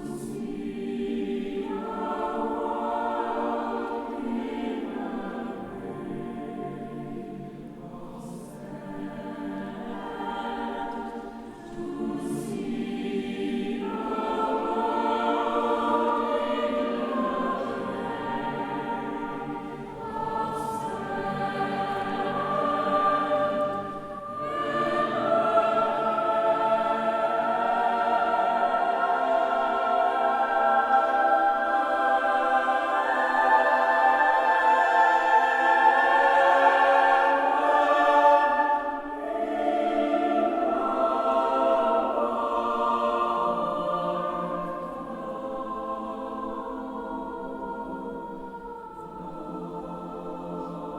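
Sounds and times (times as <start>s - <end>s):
choir singing held chords: 0.0s - 50.9s.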